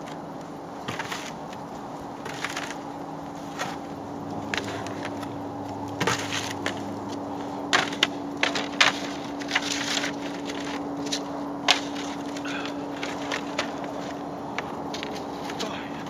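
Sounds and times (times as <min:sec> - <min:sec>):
footsteps in packed snow: 0:00.0 - 0:16.0
steady low hum: 0:00.0 - 0:16.0
plastic buckets being handled: 0:00.8 - 0:16.0.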